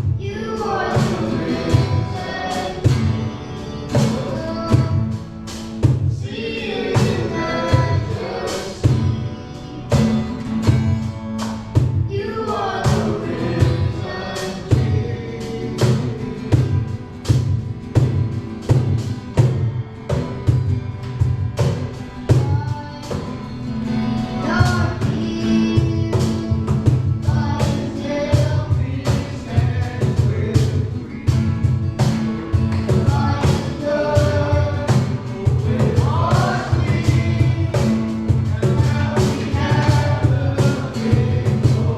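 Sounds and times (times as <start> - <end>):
band with steady beat and bass: 0.0 - 41.9
voices singing worship song: 0.0 - 41.9.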